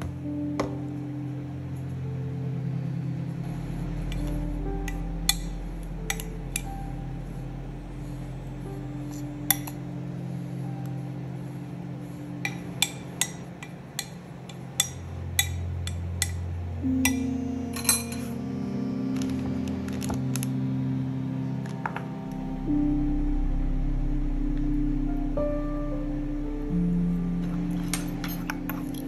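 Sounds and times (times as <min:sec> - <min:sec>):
soft background music: 0:00.0 - 0:29.0.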